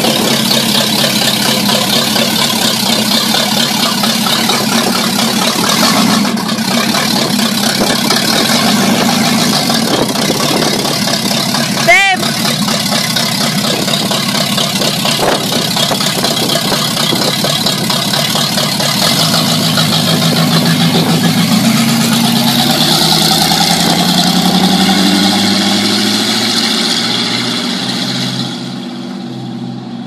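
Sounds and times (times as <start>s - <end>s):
pickup truck engine driving past: 0.0s - 30.0s.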